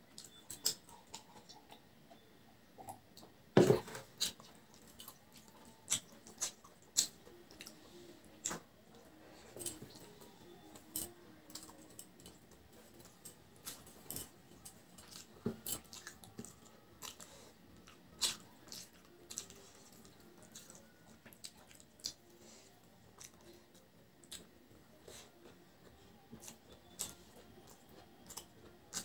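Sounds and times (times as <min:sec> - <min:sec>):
person chewing: 0:03.7 - 0:08.6, 0:09.5 - 0:29.0.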